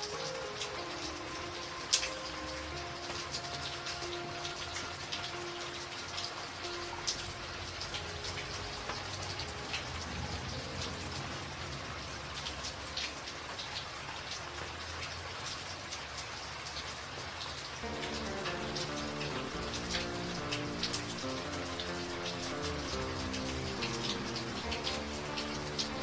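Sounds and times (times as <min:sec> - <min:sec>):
rain drops hitting: 0:00.0 - 0:26.0
rain hiss: 0:00.0 - 0:26.0.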